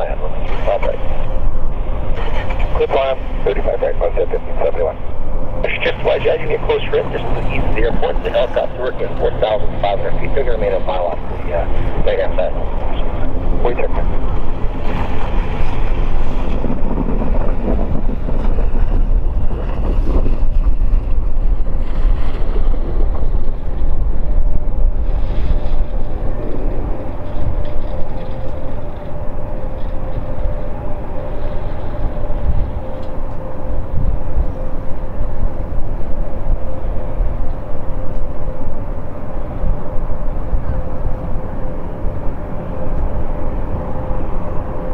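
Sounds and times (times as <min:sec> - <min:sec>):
steady engine hum: 0:00.0 - 0:44.9
turboprop propeller drone: 0:00.0 - 0:44.9
wind buffeting microphone: 0:00.0 - 0:44.9.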